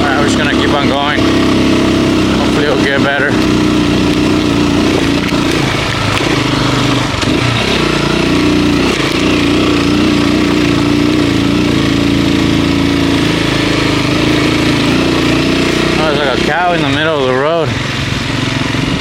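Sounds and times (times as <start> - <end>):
constant rushing noise: 0.0 - 19.0
vehicle engine running steadily: 0.0 - 19.0.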